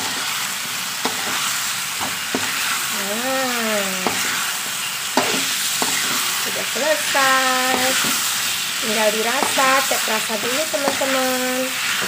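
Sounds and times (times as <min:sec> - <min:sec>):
spatula scraping a pan: 0:00.0 - 0:02.9, 0:04.0 - 0:12.0
food sizzling in a wok: 0:00.0 - 0:12.0.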